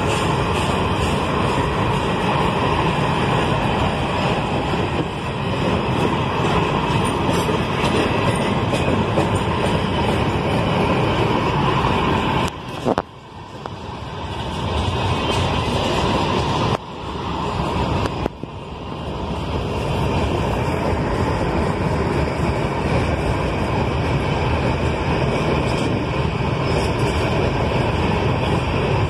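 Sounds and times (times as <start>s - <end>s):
freight train wagons rattling past: 0.0s - 29.0s.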